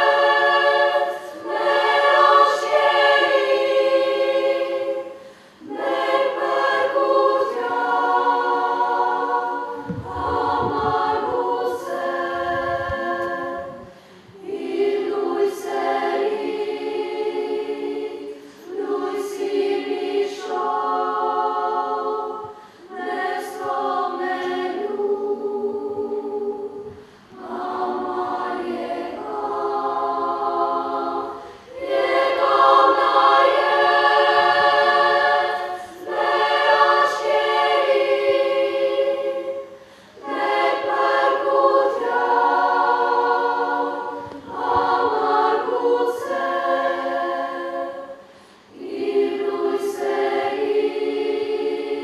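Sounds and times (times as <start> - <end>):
children's choir singing: 0.0 - 52.0.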